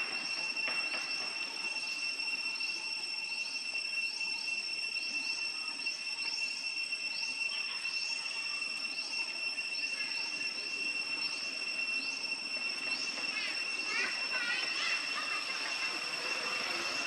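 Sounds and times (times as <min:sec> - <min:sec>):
high insect drone: 0:00.0 - 0:17.0
high squeaky calls: 0:00.0 - 0:17.0
short rising chirp: 0:00.0 - 0:17.0.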